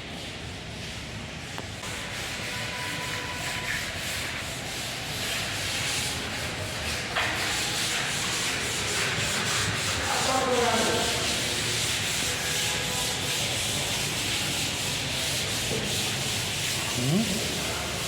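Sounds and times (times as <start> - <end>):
sandpaper sanding wall putty: 1.8 - 17.8.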